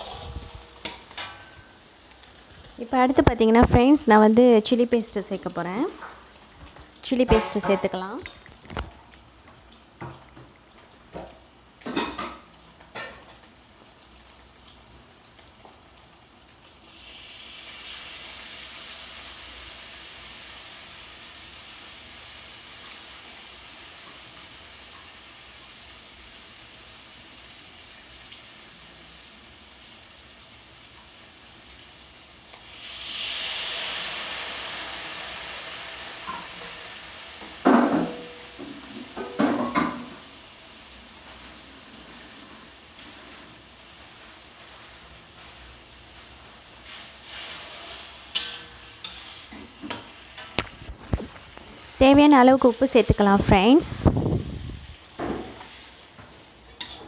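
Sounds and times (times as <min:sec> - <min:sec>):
paste sizzling in a wok: 0:00.0 - 0:03.2, 0:12.4 - 0:57.0.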